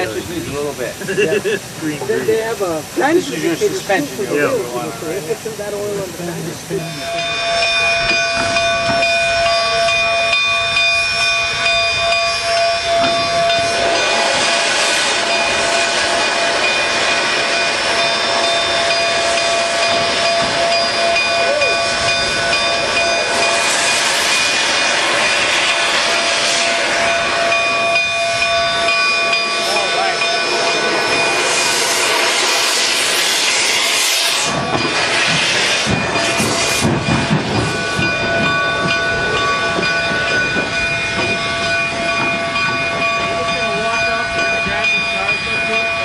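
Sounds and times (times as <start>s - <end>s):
steam hissing: 0.0s - 46.0s.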